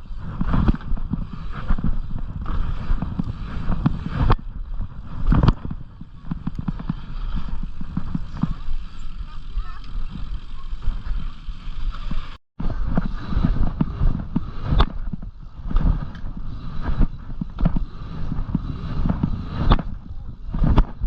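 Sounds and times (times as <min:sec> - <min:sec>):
bicycle knocks and rattles: 0:00.0 - 0:21.0
wind and tyres rumbling: 0:00.0 - 0:21.0.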